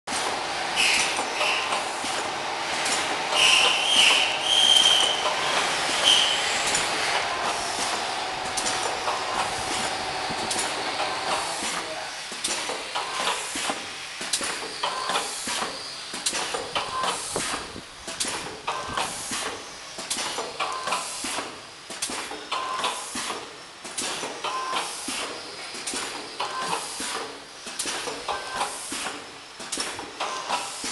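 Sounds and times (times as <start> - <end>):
packing machine clatter: 0.1 - 30.9
pneumatic clicks and air hisses: 0.1 - 30.9.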